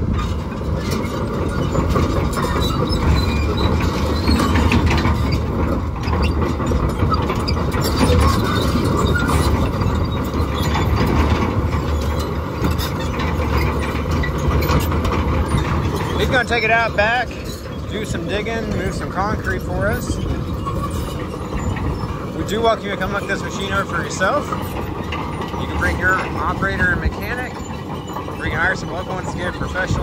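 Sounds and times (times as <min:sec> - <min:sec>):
diesel engine under load: 0:00.0 - 0:30.0
track links clanking: 0:00.0 - 0:30.0.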